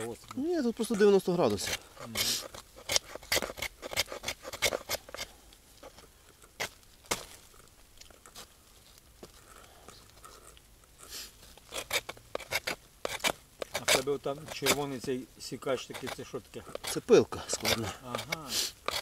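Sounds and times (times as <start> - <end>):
knife scraping hard wood: 0.0 - 7.4, 11.0 - 19.0.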